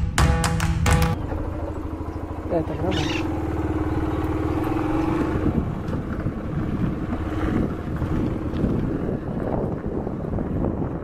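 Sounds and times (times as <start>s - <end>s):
small motorcycle engine running: 1.2s - 11.0s.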